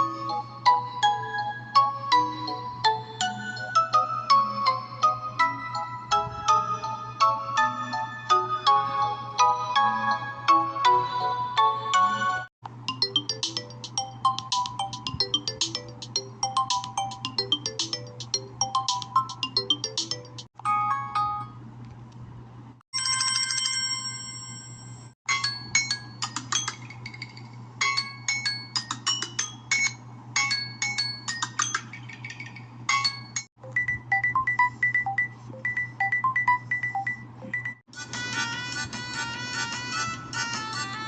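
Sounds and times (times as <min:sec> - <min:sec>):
phone ringtone melodies: 0:00.0 - 0:21.6, 0:23.0 - 0:26.8, 0:27.8 - 0:41.0.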